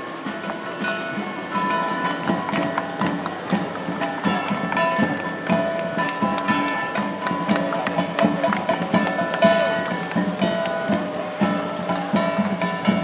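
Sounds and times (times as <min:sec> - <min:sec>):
percussion sharp strikes: 0:00.0 - 0:13.0
strummed string instruments: 0:00.0 - 0:13.0.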